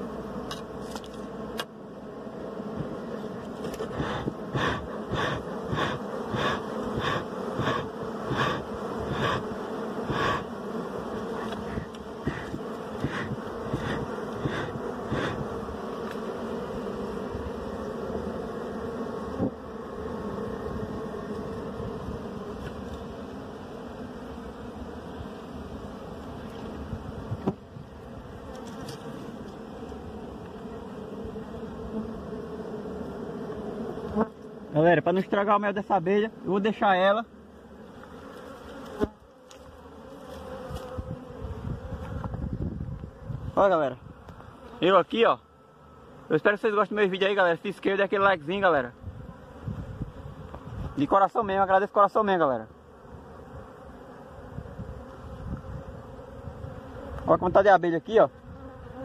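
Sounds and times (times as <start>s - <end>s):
bees buzzing: 0.0s - 59.0s
blade scraping honeycomb: 0.0s - 59.0s.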